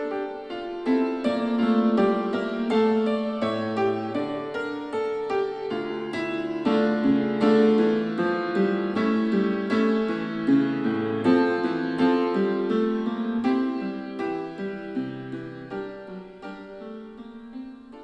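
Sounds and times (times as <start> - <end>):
piano music through speakers: 0.0 - 18.0.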